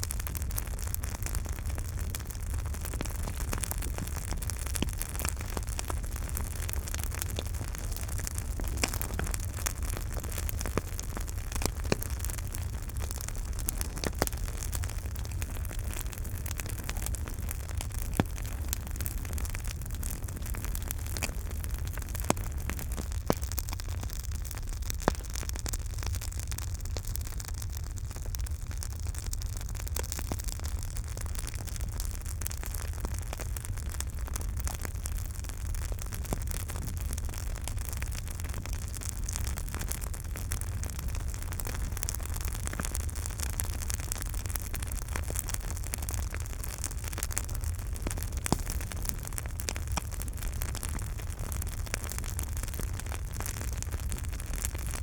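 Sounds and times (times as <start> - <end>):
loud fire pops: 0.0 - 27.4, 28.9 - 55.0
burning wood crackling: 0.0 - 55.0
fire rumble and hiss: 0.0 - 55.0.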